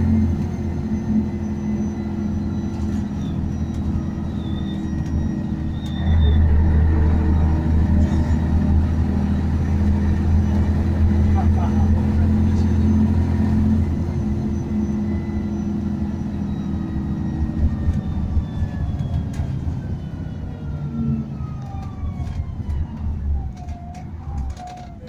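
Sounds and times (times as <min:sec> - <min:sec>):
bus diesel engine running: 0:00.0 - 0:25.0
drivetrain whine: 0:00.0 - 0:25.0.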